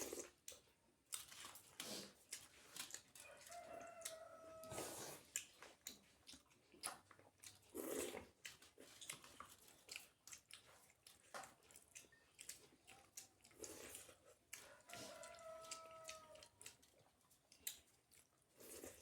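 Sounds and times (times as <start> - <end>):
wet chewing mouth sounds: 0.0 - 19.0.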